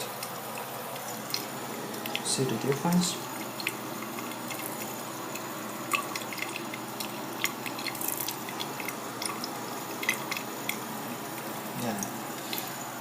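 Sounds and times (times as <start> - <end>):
water droplets dripping: 0.0 - 12.8.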